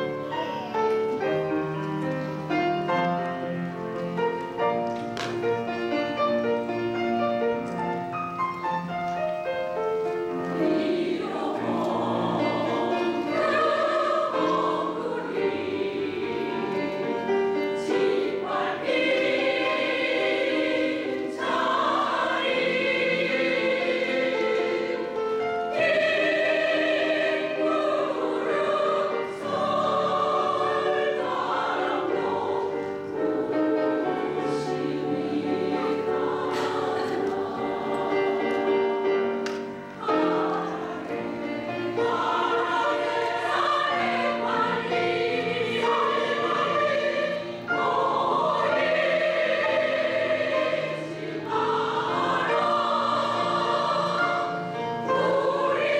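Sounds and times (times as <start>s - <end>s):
women's choir singing: 0.0s - 55.9s.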